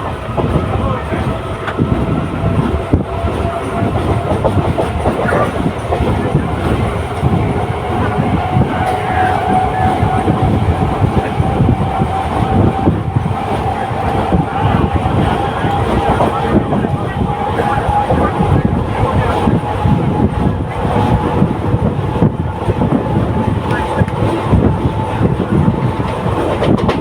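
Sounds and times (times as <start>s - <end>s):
steady train whine: 0.0s - 27.0s
train wheels rumbling on rail: 0.0s - 27.0s.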